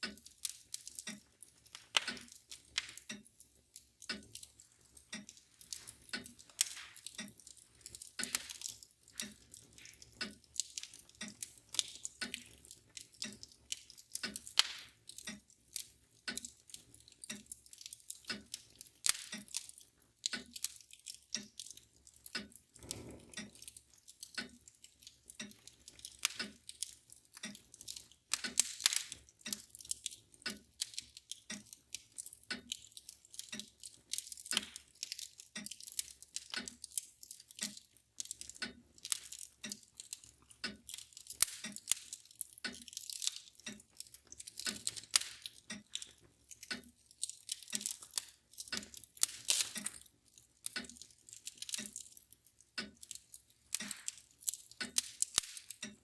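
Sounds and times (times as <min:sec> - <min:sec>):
mantle clock ticking: 0:00.0 - 0:56.0
wood fire crackling: 0:00.0 - 0:56.0.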